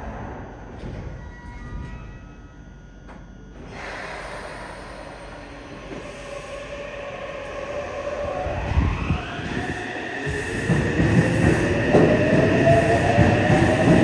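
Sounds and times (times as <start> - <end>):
train inverter whine: 0.0 - 14.0.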